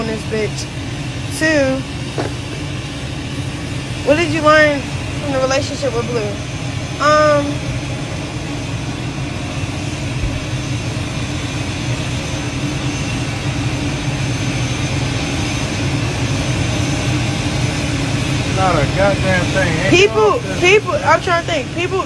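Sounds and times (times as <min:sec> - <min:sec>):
jet cabin drone: 0:00.0 - 0:22.0.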